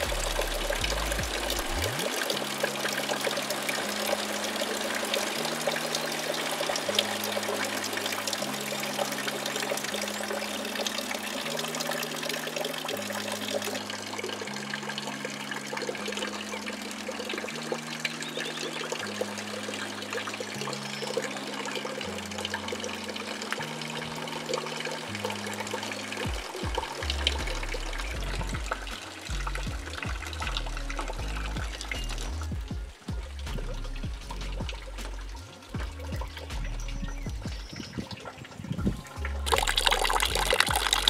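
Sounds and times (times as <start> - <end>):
soft background music: 0.0 - 41.0
water trickling: 0.0 - 41.0.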